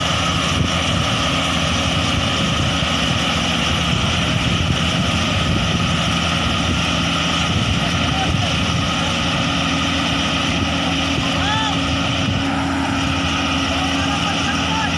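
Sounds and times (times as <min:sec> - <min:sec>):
combine harvester drone: 0:00.0 - 0:14.9.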